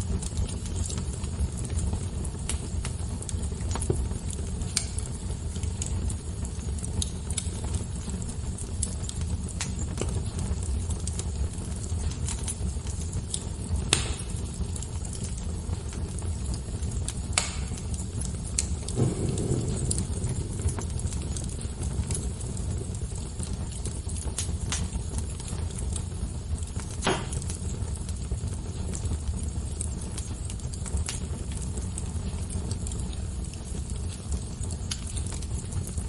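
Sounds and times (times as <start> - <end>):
fire pops and snaps: 0.0 - 36.0
low rumble of fire: 0.0 - 36.0.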